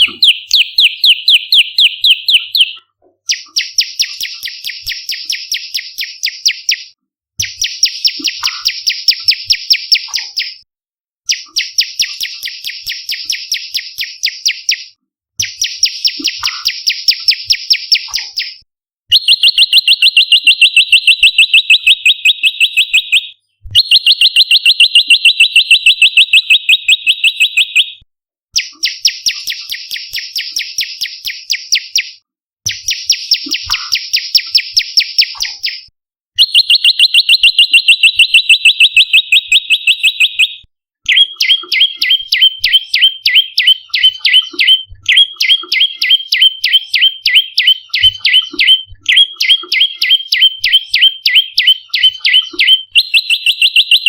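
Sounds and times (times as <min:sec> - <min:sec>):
bird calling in rapid trills: 0:00.0 - 0:10.6, 0:11.3 - 0:27.9, 0:36.4 - 0:54.0.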